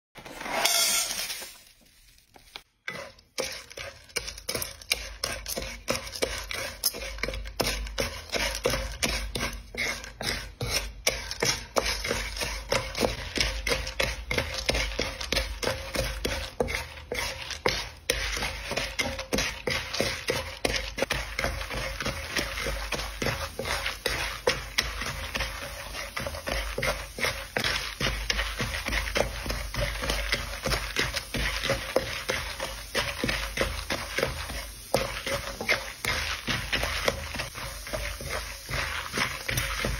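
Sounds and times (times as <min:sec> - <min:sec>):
spatula scraping pan: 0:00.2 - 0:01.6, 0:02.6 - 0:39.9
popcorn crackling in wok: 0:00.2 - 0:39.9.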